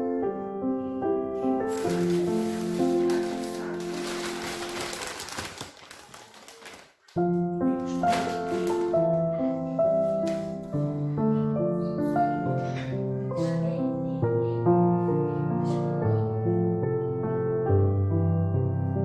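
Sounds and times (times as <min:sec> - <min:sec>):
gentle piano music: 0:00.0 - 0:06.0, 0:07.2 - 0:19.0.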